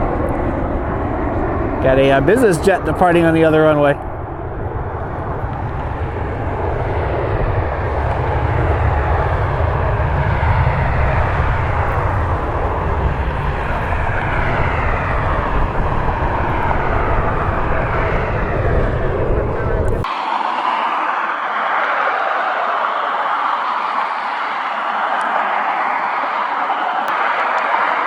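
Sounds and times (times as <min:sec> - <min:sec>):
jet engines at takeoff power: 0:00.0 - 0:28.0
whining tones gliding down: 0:00.0 - 0:28.0.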